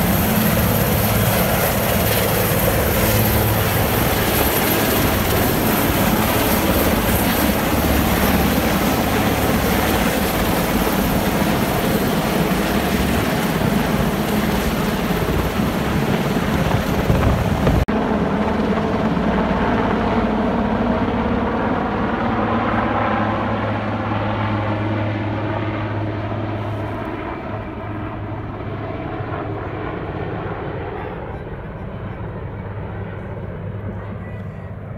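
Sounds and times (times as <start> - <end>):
helicopter flying overhead: 0.0 - 34.9.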